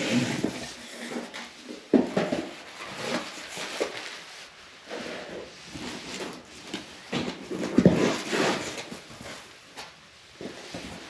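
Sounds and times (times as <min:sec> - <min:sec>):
cardboard scraping and rustling: 0:00.0 - 0:09.5.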